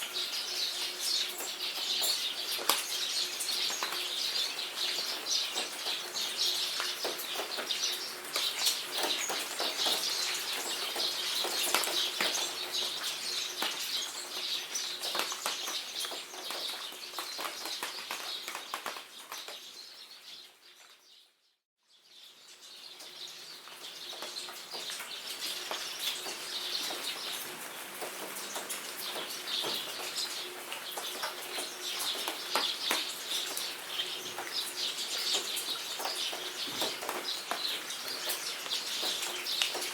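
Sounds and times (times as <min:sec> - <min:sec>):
rain patter in jungle: 0:00.0 - 0:21.1, 0:21.9 - 0:39.9
birds calling and chirping: 0:00.0 - 0:21.3, 0:22.0 - 0:39.9.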